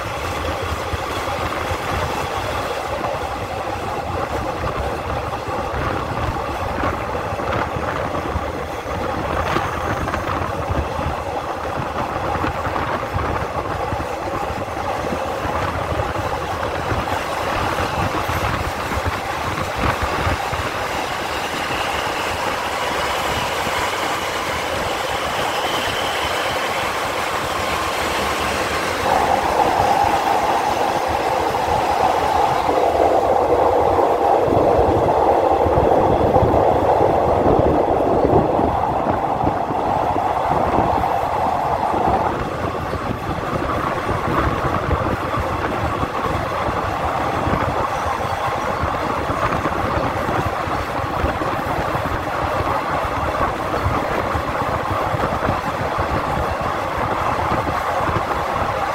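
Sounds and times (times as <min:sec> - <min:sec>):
electric train passing: 0:00.0 - 0:58.9
train wheels rumbling on rails: 0:00.0 - 0:58.9.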